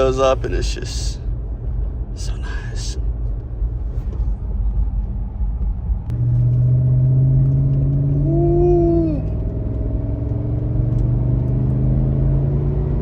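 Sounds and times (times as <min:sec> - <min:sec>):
car engine rumble from inside cabin: 0:00.0 - 0:13.0.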